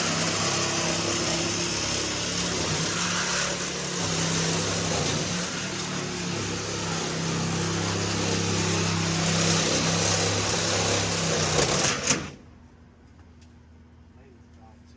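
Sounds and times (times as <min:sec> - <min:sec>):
power tool motor running: 0:00.0 - 0:12.4.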